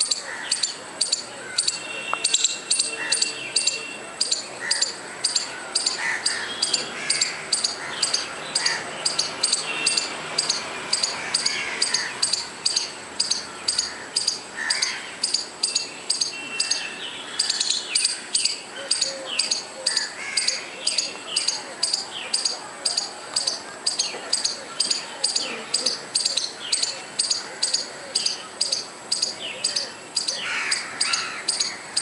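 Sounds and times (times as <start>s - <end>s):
faint bird calls: 0.0s - 32.0s
squirrel chirping: 0.0s - 32.0s.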